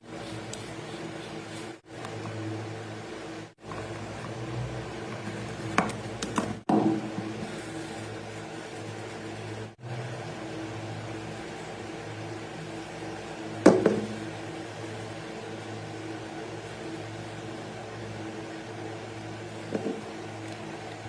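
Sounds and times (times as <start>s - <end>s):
water pump motor humming: 0.0s - 21.0s.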